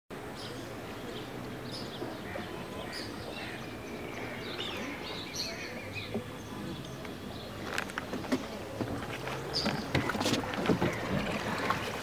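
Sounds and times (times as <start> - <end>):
birds chirping and calling: 0.3 - 12.0.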